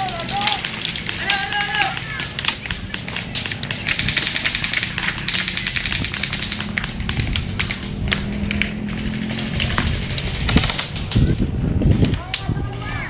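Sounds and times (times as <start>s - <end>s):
airsoft guns firing: 0.0s - 11.4s.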